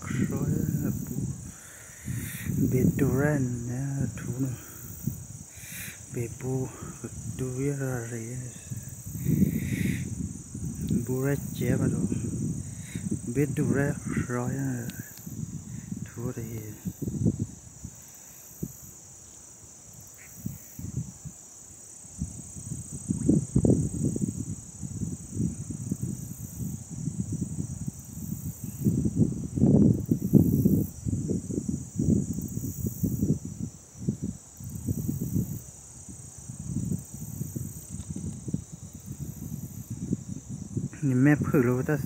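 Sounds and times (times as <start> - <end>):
insects droning: 0.0 - 42.0
wind buffeting microphone: 0.0 - 42.0.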